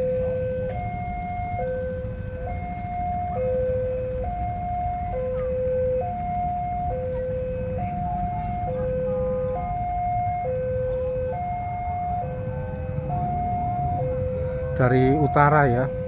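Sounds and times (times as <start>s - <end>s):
two-tone level crossing alarm: 0.0s - 16.0s.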